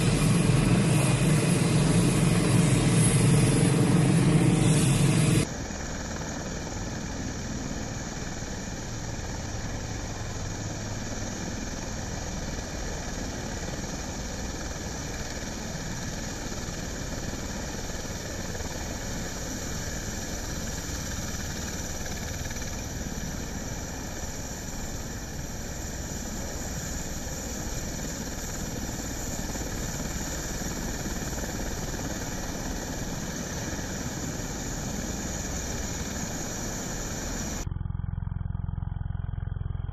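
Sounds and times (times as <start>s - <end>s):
steady engine drone: 0.0s - 39.9s.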